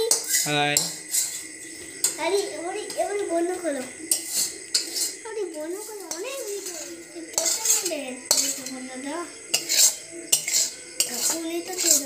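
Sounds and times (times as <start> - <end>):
metal spoon scraping metal pan: 0.0 - 3.1, 4.0 - 12.0.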